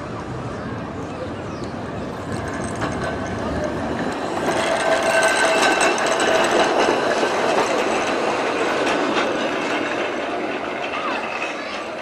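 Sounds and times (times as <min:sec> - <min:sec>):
tram wheels clicking over rail joints: 0:00.4 - 0:12.0.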